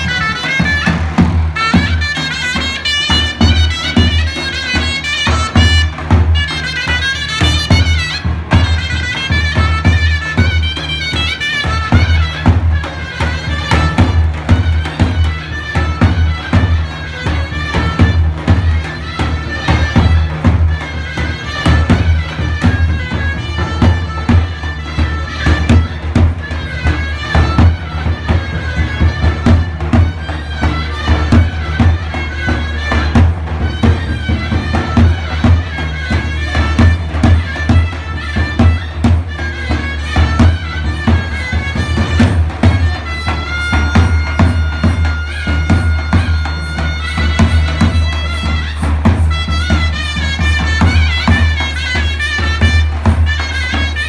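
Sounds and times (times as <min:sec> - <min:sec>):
shawm playing a dance melody: 0:00.0 - 0:54.0.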